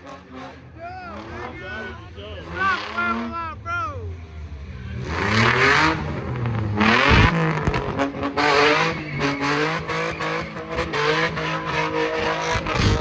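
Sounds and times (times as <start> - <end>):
car engine revving hard: 0.0 - 13.0
tyres screeching: 0.1 - 13.0.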